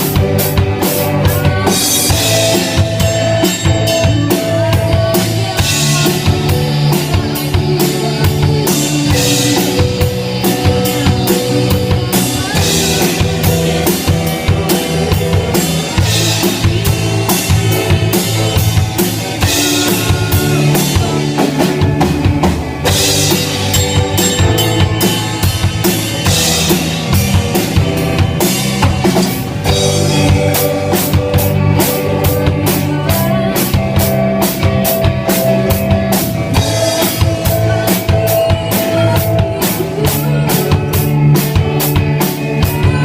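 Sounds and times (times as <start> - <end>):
band music: 0.0 - 43.0
drum kit beat: 0.0 - 43.0.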